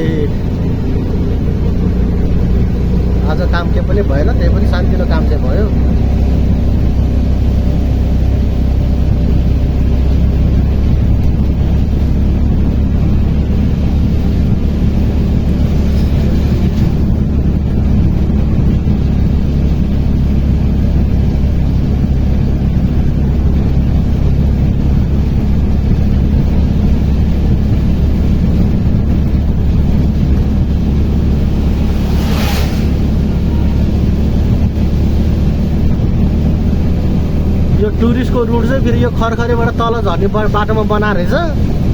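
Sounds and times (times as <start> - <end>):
auto-rickshaw engine running: 0.0 - 32.1, 33.0 - 41.9
road noise: 0.0 - 41.9.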